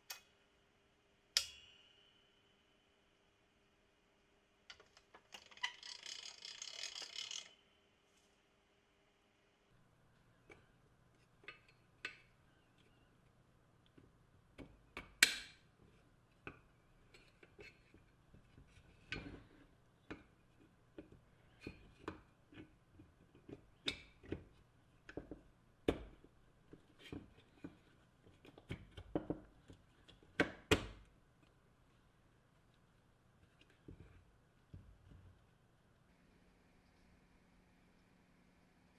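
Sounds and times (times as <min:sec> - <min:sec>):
faint low hum: 0:06.9 - 0:38.9.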